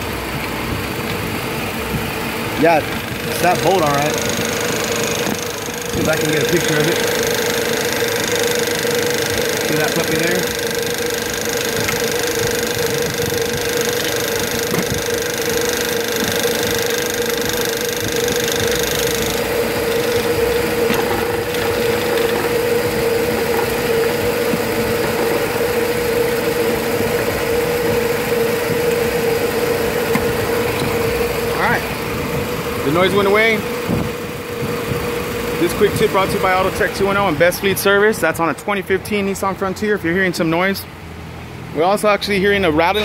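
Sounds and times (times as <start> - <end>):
pickup engine idling: 0.0 - 39.7.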